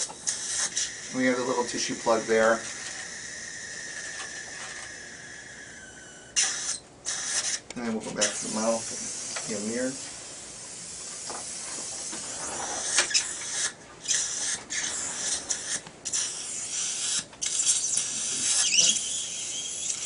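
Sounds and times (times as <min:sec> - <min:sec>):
dental suction hissing: 0:00.0 - 0:20.0.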